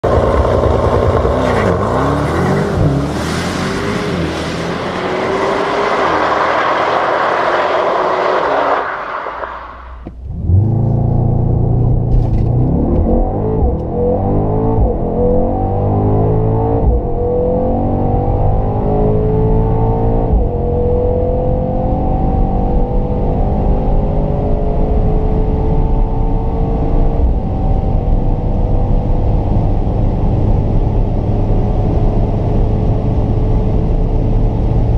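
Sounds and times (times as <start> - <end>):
car engine revving: 0.0 - 34.9
engine accelerating with gear shifts: 0.0 - 34.9.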